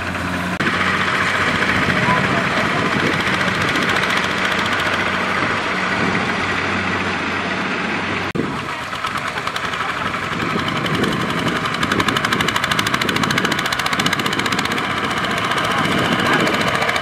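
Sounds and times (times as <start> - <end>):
power tiller diesel engine: 0.0 - 17.0.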